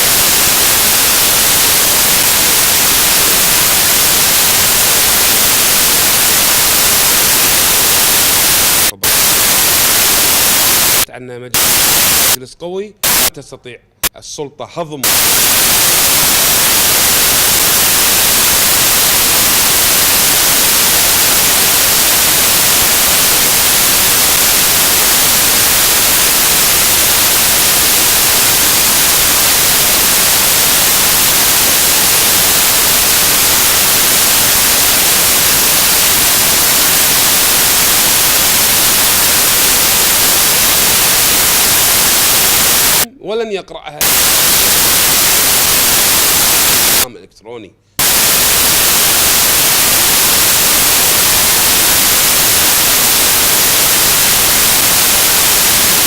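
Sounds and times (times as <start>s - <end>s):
loud static hiss: 0.0s - 13.3s, 15.0s - 43.1s, 44.0s - 47.2s, 47.9s - 56.0s.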